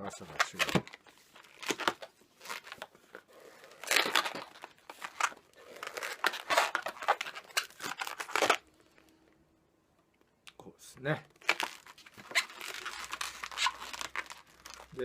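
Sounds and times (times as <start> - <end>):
balloons rubbing and squeaking: 0.0 - 8.6, 11.4 - 15.0.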